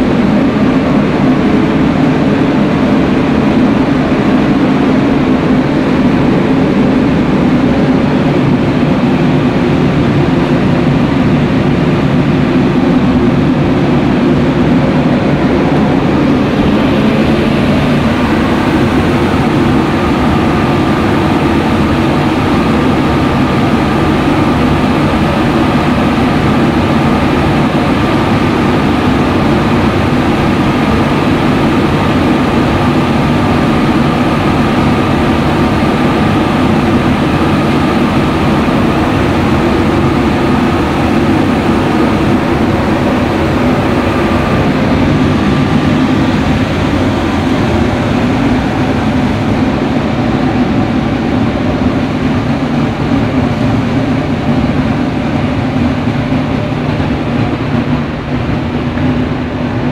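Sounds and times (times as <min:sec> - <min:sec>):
machine motor and fan humming: 0:00.0 - 0:59.9
thin steady whine: 0:00.0 - 0:59.9.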